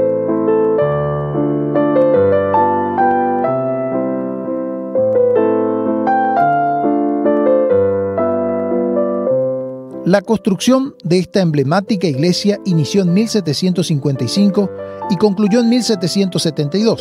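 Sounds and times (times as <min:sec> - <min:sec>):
slow piano chords with melody: 0:00.0 - 0:17.0.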